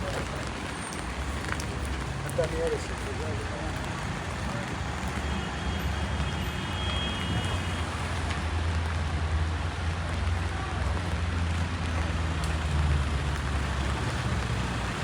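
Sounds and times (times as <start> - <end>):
motor vehicle rumble: 0.0 - 15.0
rain on street: 0.0 - 15.0.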